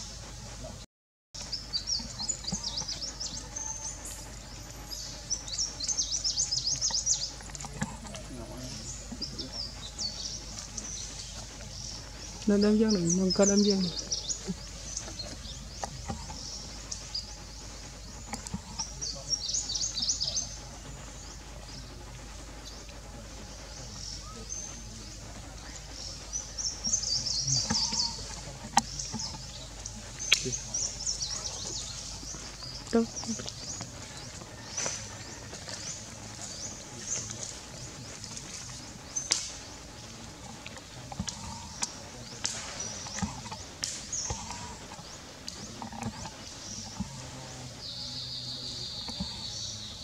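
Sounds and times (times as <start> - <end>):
low steady hum: 0.0 - 0.8, 1.4 - 50.0
birds chirping: 0.0 - 50.0.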